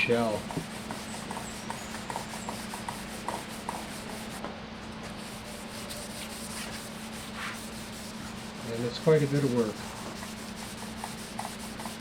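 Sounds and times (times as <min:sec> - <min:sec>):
sandpaper sanding drum shell: 0:00.0 - 0:04.4, 0:05.1 - 0:12.0.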